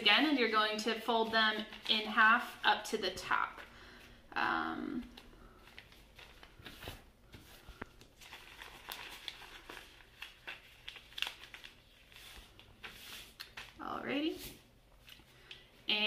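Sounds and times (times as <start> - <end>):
newspaper crinkling and rustling: 0.3 - 2.8, 5.0 - 15.6.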